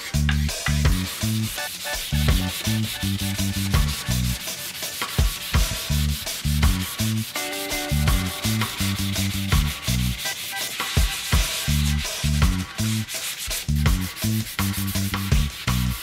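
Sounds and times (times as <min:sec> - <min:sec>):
background music with bass line: 0:00.0 - 0:16.0
sanding wood by hand: 0:00.0 - 0:16.0.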